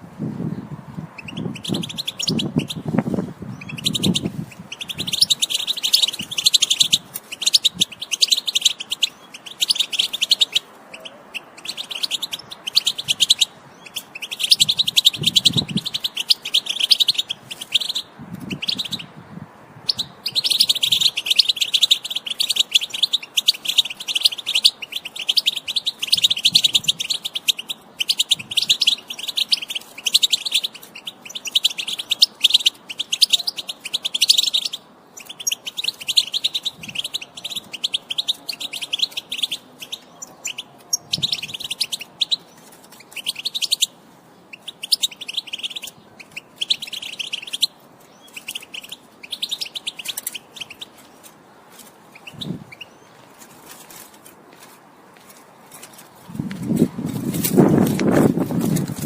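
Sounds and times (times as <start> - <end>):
goldfinch twittering song: 1.1 - 2.9, 3.5 - 19.1, 19.9 - 51.2.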